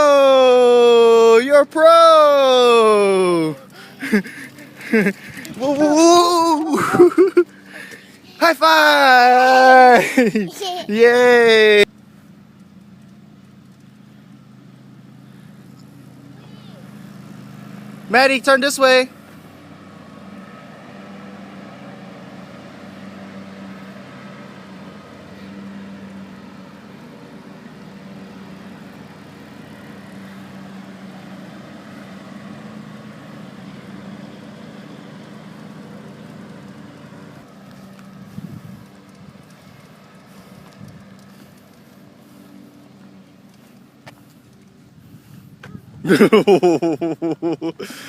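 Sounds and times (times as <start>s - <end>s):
vehicle engine hum: 0.0s - 48.0s.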